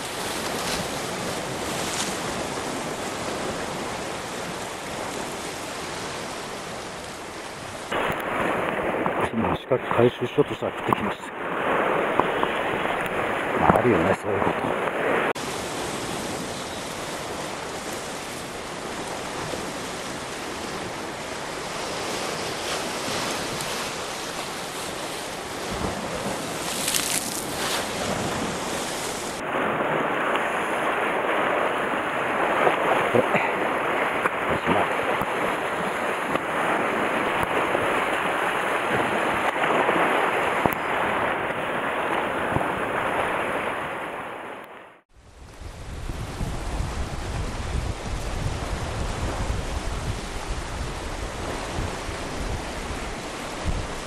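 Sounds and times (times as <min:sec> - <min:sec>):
waves breaking on rocky shore: 0:00.0 - 0:54.0
wind rumbling on microphone: 0:00.0 - 0:54.0.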